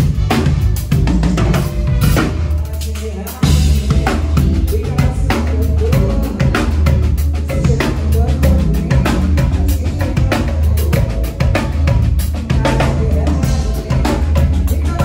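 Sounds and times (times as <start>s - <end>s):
deep bass line: 0.0s - 15.0s
drum kit: 0.0s - 15.0s
live band playing: 0.0s - 15.0s.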